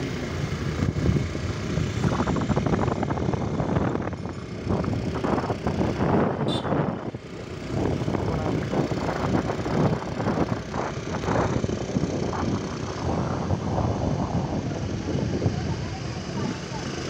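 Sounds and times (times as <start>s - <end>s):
scooter engine running: 0.0s - 17.0s
wind buffeting microphone: 0.0s - 17.0s.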